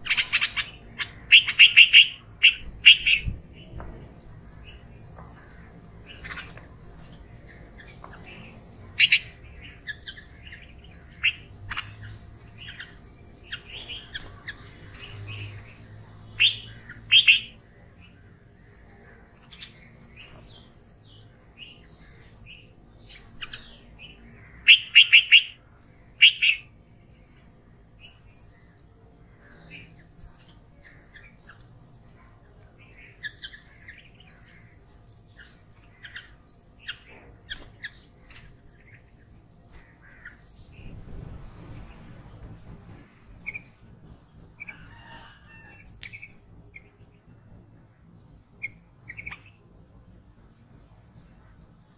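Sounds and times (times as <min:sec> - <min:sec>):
birds chirping and squawking: 0:00.0 - 0:47.1, 0:48.5 - 0:51.9.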